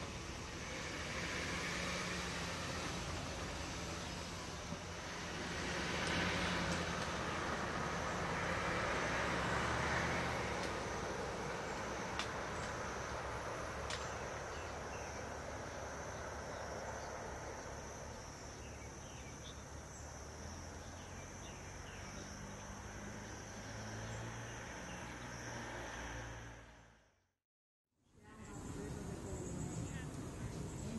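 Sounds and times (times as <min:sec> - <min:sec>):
distant traffic rumble: 0:00.0 - 0:27.0, 0:28.0 - 0:30.9.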